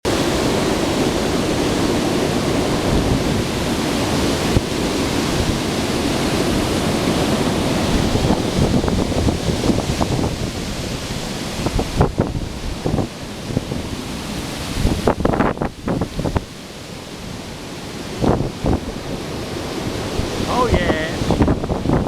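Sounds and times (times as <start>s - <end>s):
storm wind buffeting microphone: 0.1s - 22.0s.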